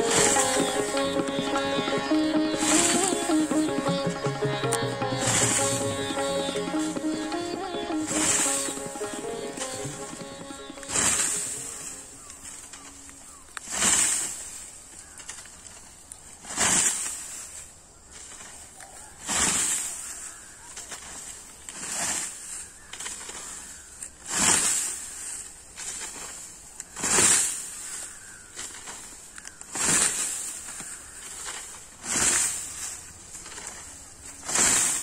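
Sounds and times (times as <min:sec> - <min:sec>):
scythe swishing through stalks: 0:00.0 - 0:35.0.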